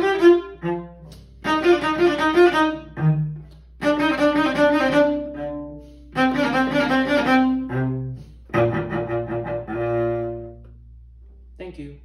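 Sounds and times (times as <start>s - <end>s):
solo cello bowed: 0.0s - 10.8s.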